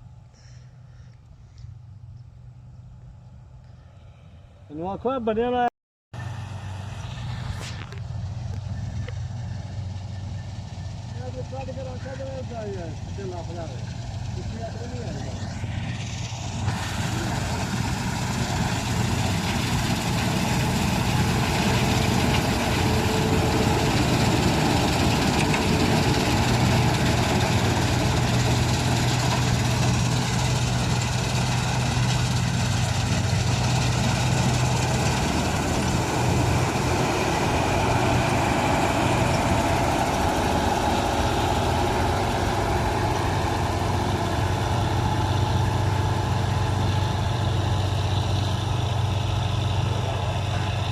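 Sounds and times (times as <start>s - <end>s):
combine harvester engine hum: 6.2s - 50.9s.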